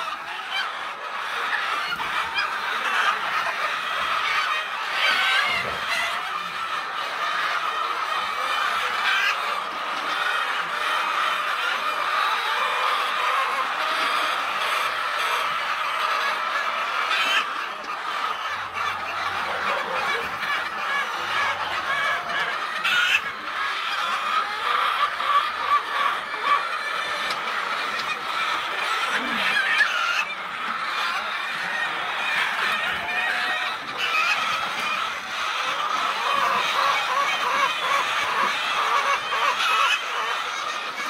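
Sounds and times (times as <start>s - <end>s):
many birds chattering: 0.0s - 41.0s.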